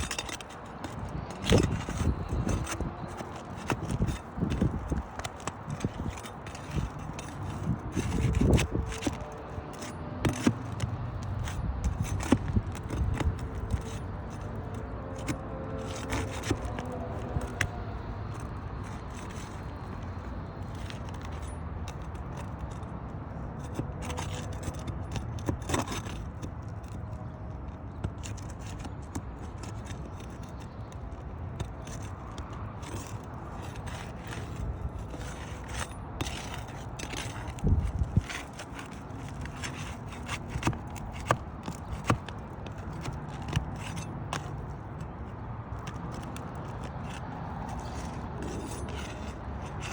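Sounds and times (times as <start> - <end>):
roof shingles being scraped: 0.0 - 49.9.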